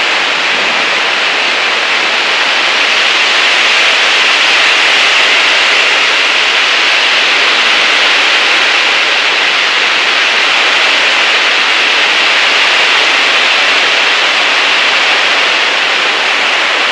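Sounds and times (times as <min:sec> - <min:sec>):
rain in strong wind: 0:00.0 - 0:16.9.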